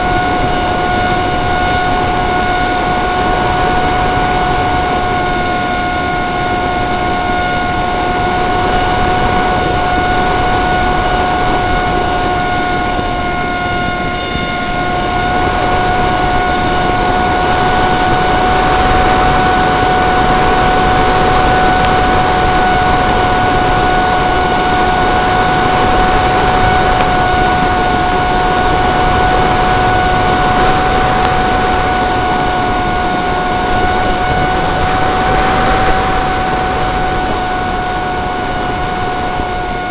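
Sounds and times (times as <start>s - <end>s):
electric motor whine: 0.0s - 39.9s
wind noise: 0.0s - 39.9s.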